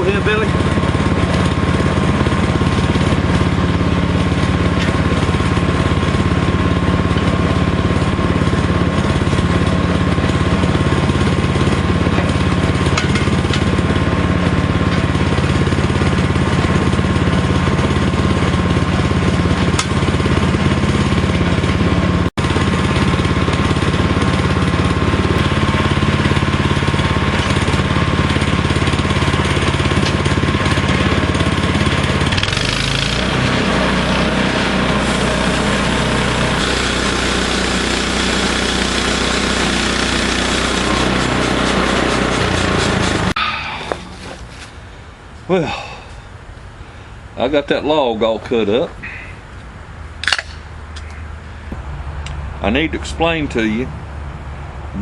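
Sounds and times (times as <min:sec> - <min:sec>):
sawmill engine droning: 0:00.0 - 0:50.0, 0:51.0 - 0:55.0.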